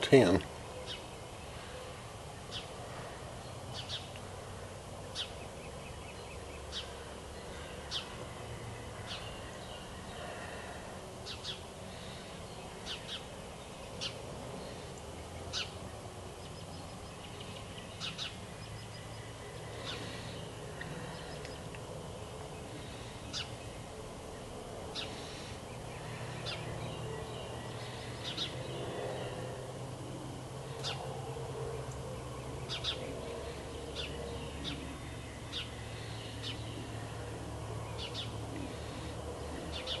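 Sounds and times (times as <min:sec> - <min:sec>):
background hiss: 0:00.0 - 0:40.0.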